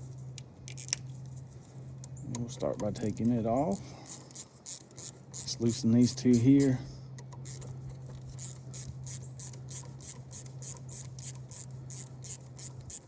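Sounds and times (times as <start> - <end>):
steady low hum: 0.0 - 13.0
socket ratchet clicking: 0.4 - 1.1, 2.0 - 13.0.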